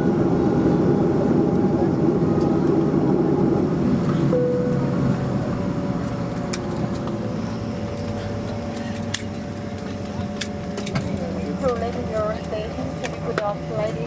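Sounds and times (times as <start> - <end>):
steady hum: 0.0 - 14.0
vehicle rumble from inside: 0.0 - 14.0.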